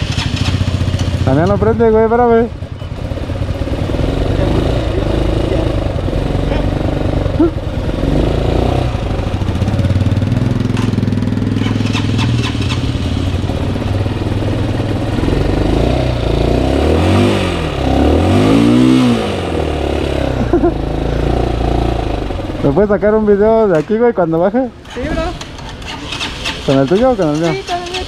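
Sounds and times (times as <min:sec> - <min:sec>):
motorcycle engine idling and revving: 0:00.0 - 0:28.0.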